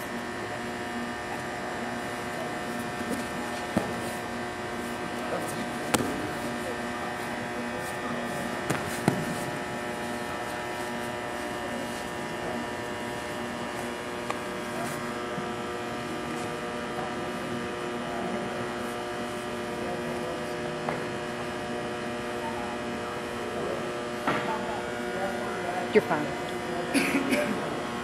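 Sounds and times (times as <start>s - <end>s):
steady hum of held tones: 0.0s - 28.0s.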